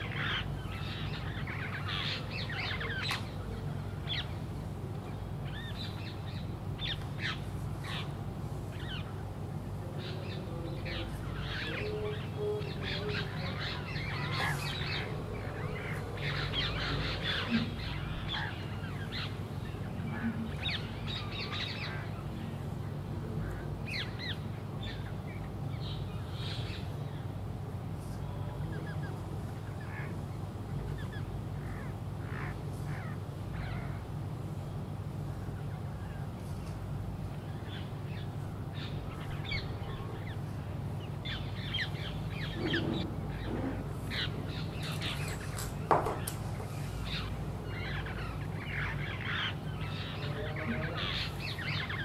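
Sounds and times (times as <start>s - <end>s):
birds chirping: 0.0s - 52.0s
steady low hum: 0.0s - 52.0s.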